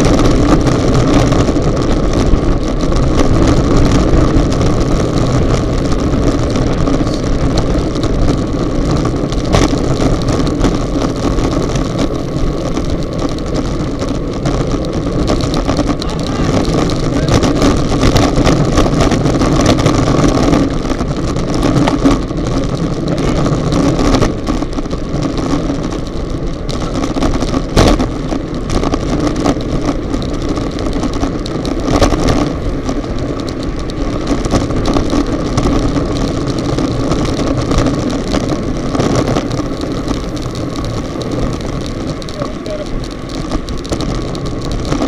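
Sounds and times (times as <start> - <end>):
tyres humming on road: 0.0 - 45.0
wind rushing over microphone: 0.0 - 45.0.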